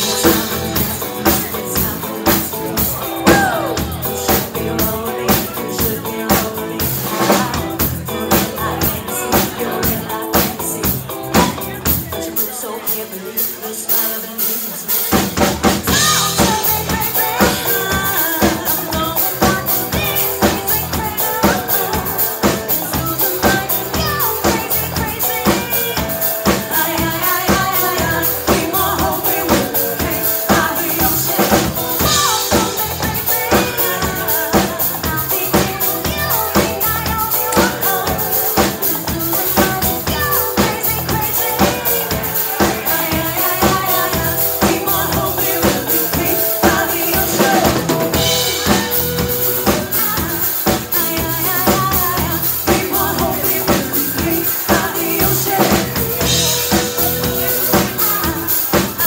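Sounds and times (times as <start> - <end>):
pop-rock band playing: 0.0 - 59.0
women singing: 0.0 - 59.0.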